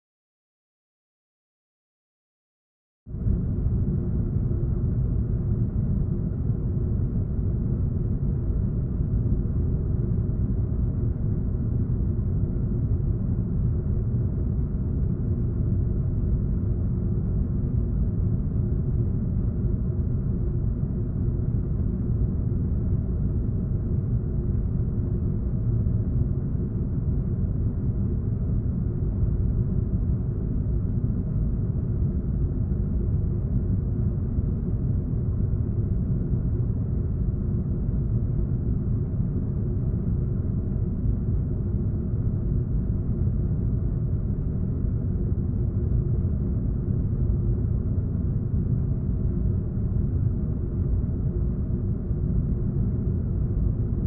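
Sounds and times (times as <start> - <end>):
air vent rumble: 3.1 - 54.0
faint hum: 3.1 - 54.0.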